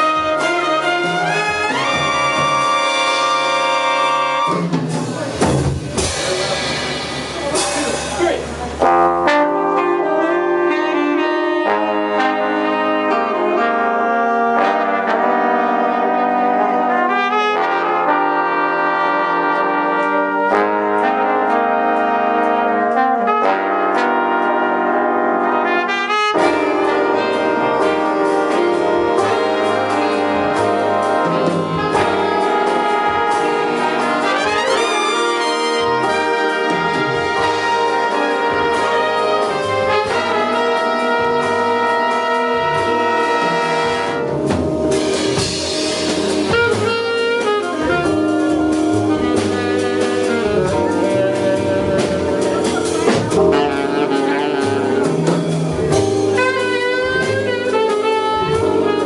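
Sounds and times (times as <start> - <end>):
woodwinds: 0.0 - 6.8, 7.4 - 59.0
big band brass playing chords: 0.0 - 59.0
drums: 0.0 - 59.0.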